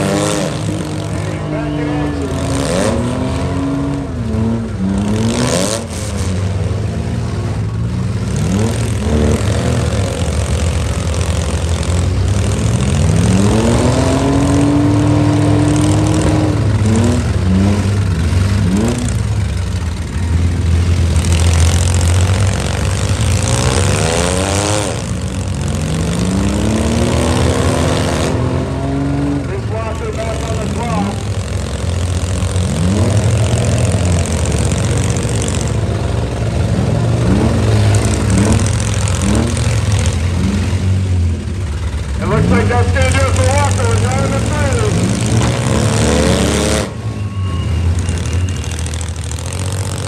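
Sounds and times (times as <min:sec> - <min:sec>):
engines revving hard: 0:00.0 - 0:50.0.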